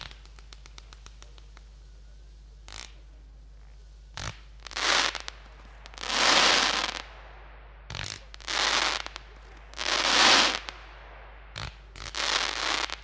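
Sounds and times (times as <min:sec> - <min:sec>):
fireworks shells bursting: 0:00.0 - 0:01.8, 0:02.6 - 0:13.0
fireworks crackling: 0:00.0 - 0:13.0.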